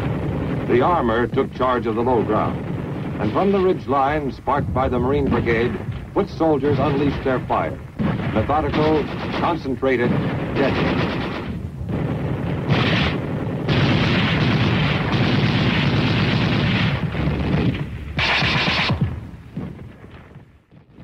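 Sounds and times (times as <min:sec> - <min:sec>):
machine-gun fire: 0:00.0 - 0:20.4
explosions booming: 0:00.0 - 0:21.0.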